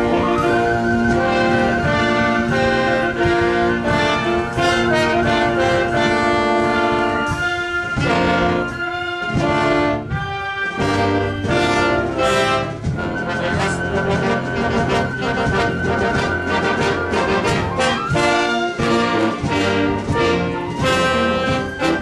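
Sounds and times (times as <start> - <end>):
brass melody: 0.0 - 22.0
percussion: 0.0 - 22.0.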